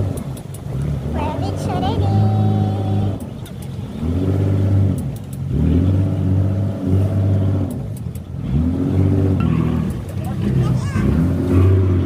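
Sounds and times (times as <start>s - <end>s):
boat diesel engine revving: 0.0s - 12.0s.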